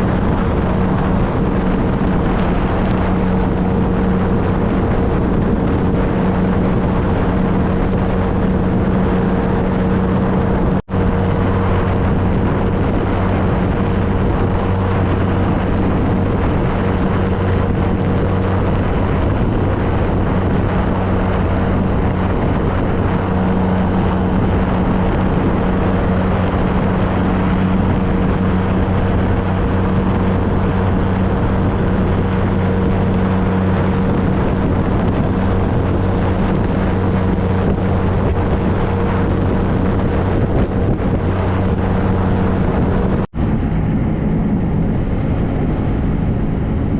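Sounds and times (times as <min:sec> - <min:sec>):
motorcycle engine running: 0:00.0 - 0:46.9
wind and road noise: 0:00.0 - 0:46.9.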